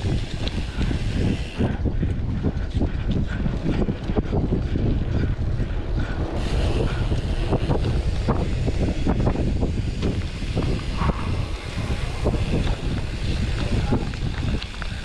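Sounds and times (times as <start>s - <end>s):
bike rattling and knocking: 0.0s - 15.0s
bike tyre rumble on dirt: 0.0s - 15.0s
wind buffeting microphone: 0.0s - 15.0s.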